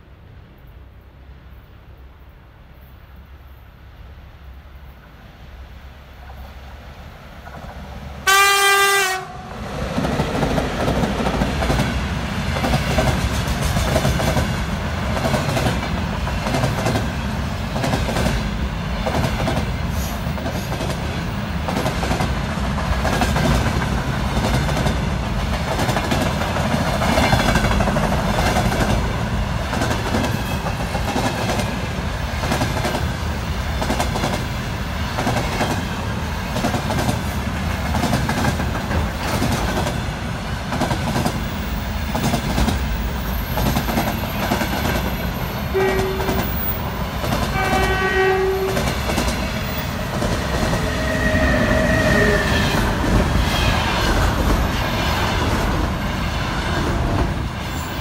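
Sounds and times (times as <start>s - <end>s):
freight train heavy rumble: 0.0s - 58.0s.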